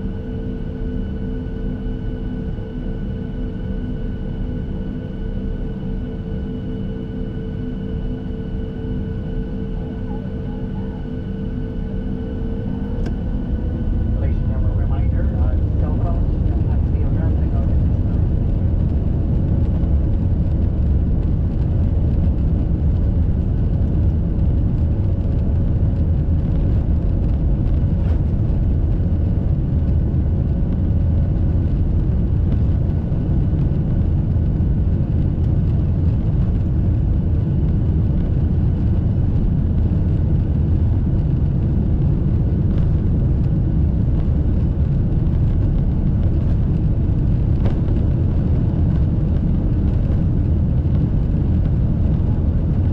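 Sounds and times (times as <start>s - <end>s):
jet engines rumbling in cabin: 0.0s - 52.9s.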